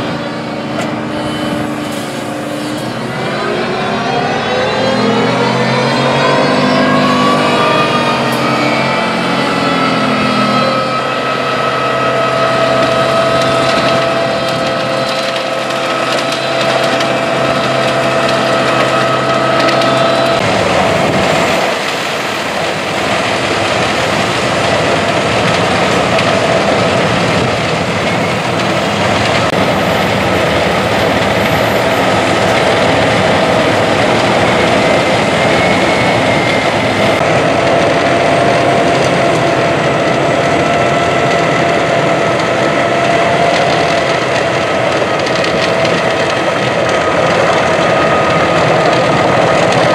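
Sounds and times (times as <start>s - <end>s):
wood chipper whining: 0.0s - 49.9s
branches fed through chipper: 5.1s - 49.9s.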